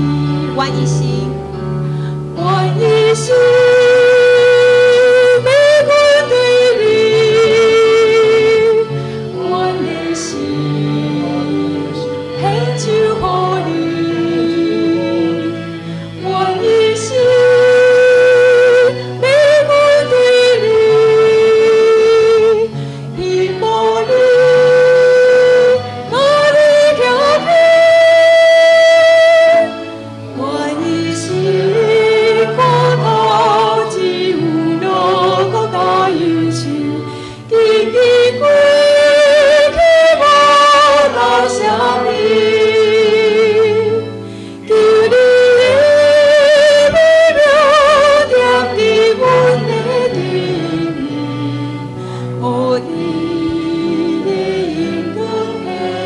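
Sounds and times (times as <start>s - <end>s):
woman singing into microphone: 0.0s - 1.4s, 2.2s - 56.0s
sustained accompaniment chords: 0.0s - 56.0s.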